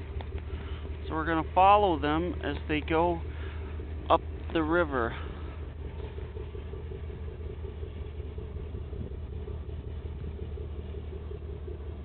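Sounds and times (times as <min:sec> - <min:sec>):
tugboat engines rumbling: 0:00.0 - 0:12.0.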